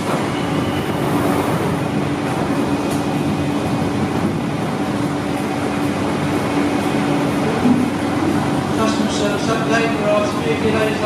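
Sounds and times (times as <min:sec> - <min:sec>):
underground train rumbling: 0:00.0 - 0:11.0.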